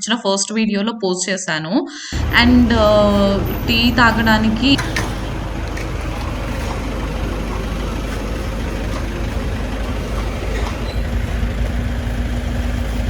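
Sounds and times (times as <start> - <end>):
car driving road noise: 2.1 - 13.0.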